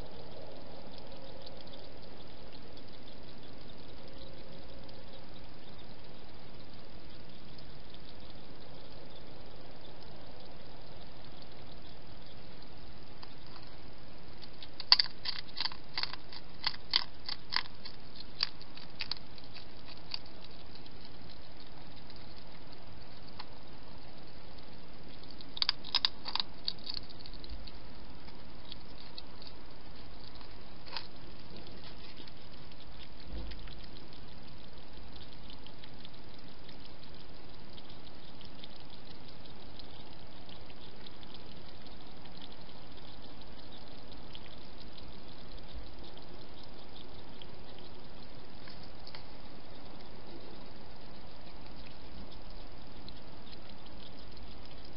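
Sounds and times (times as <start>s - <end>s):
hedgehog eating clicks and smacks: 0.0s - 54.9s
steady hiss: 0.0s - 54.9s.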